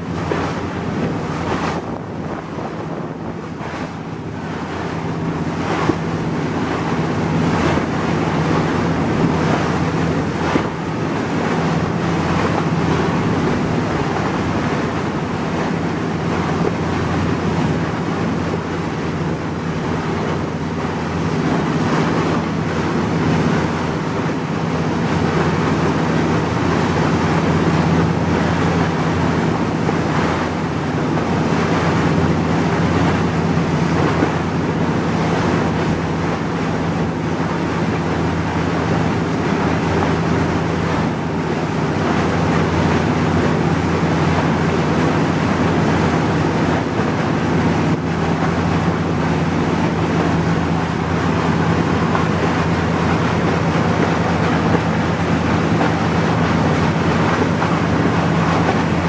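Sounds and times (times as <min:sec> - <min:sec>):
boat engine humming: 0:00.0 - 0:59.0
water churning: 0:00.0 - 0:59.0
wind on microphone: 0:00.0 - 0:59.0.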